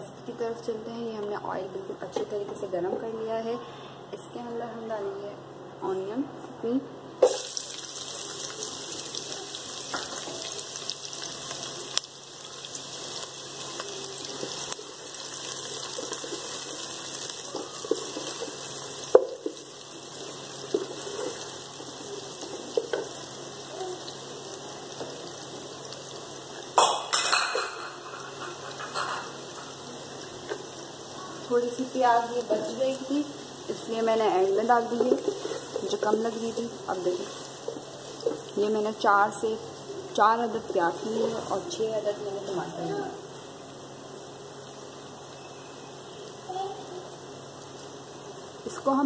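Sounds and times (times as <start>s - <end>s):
onions sizzling in oil: 7.2s - 49.0s.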